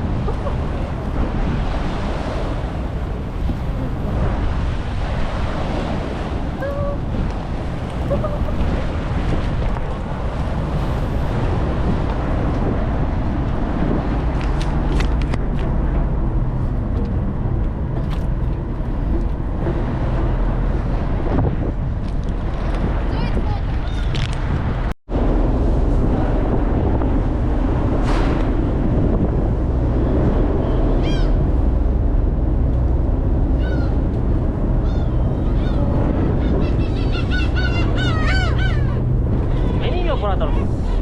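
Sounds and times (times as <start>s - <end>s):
sea waves washing: 0.0s - 41.0s
steady low rumble: 0.0s - 41.0s
wind buffeting the microphone: 0.0s - 41.0s.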